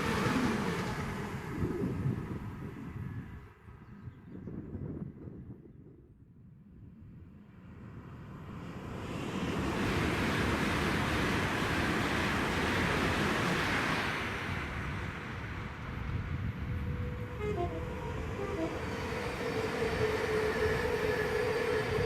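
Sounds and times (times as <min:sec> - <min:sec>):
train passing at speed: 0:00.0 - 0:03.8, 0:07.4 - 0:22.0.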